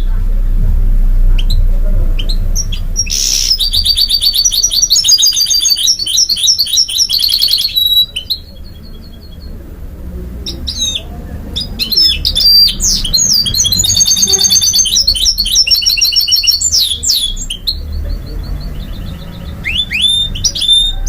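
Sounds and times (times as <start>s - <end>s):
bird singing trills and chirps: 1.3s - 21.0s.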